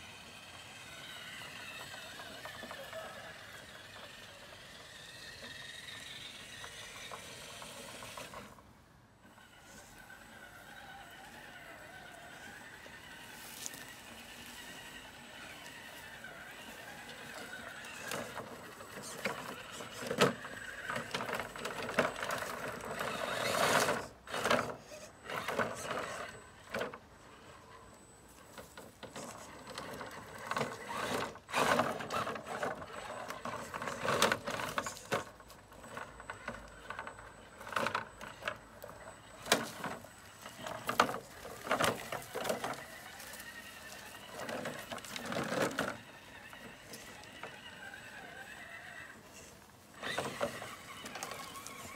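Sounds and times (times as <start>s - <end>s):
toy truck motor whining: 0.0s - 8.6s, 9.2s - 51.9s.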